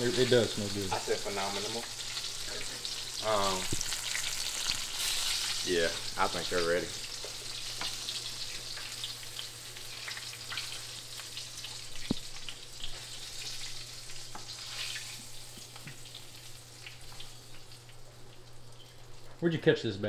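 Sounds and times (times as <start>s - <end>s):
fish frying in hot oil: 0.0s - 19.4s.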